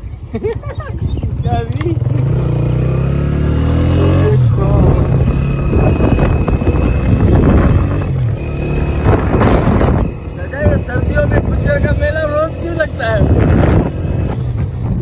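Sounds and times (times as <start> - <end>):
motorcycle engine revving: 0.8 - 15.0.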